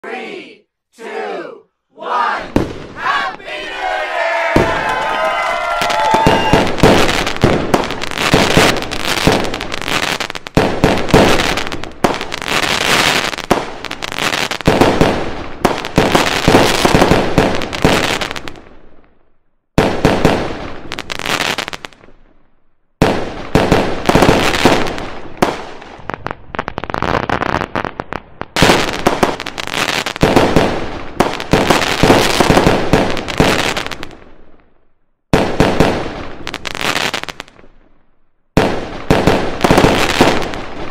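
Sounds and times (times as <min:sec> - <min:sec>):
fireworks bangs and crackles: 0:02.4 - 0:40.9.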